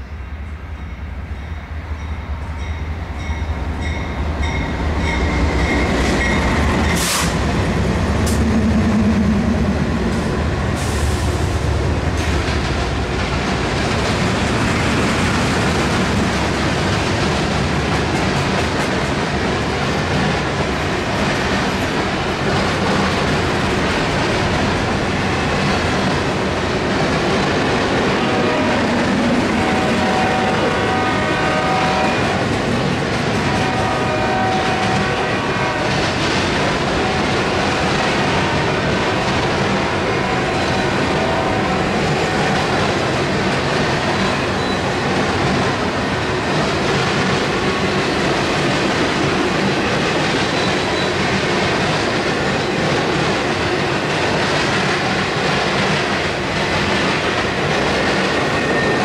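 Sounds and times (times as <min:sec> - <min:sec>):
diesel locomotives rumbling: 0:00.0 - 0:59.0
train wheel clatter: 0:03.2 - 0:30.9, 0:31.9 - 0:59.0.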